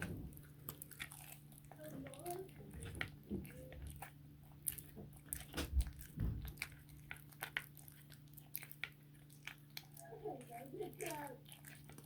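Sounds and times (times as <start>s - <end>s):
cat crunching bone: 0.0s - 12.0s.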